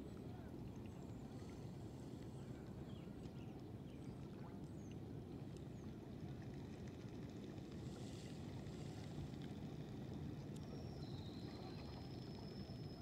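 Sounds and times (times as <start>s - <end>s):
faint low rumble: 0.0s - 13.0s
faint high chirps and ticks: 2.1s - 13.0s.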